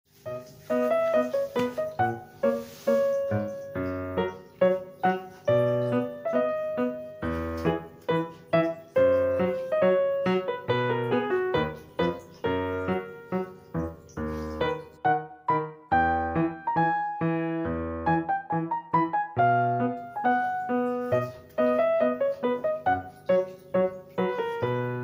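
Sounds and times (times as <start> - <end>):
piano music: 0.1 - 25.0.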